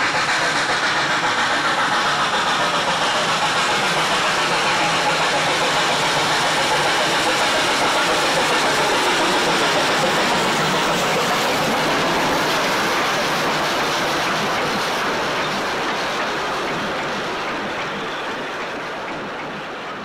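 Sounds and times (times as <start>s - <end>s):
carriages rolling on rails: 0.0s - 20.0s
steam locomotive working: 0.0s - 20.0s.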